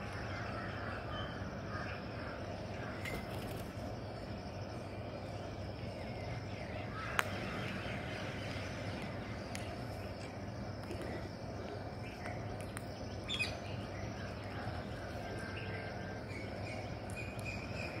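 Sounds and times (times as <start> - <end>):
bird calls: 0.0 - 4.4, 5.2 - 18.0
low steady hum: 0.0 - 18.0.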